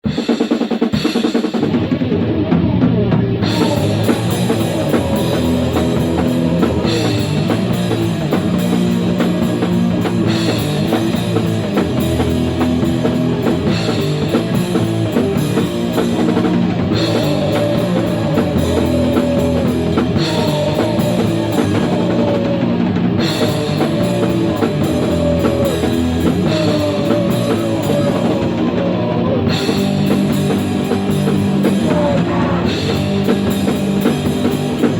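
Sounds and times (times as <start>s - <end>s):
instrumental rock music: 0.0s - 34.9s.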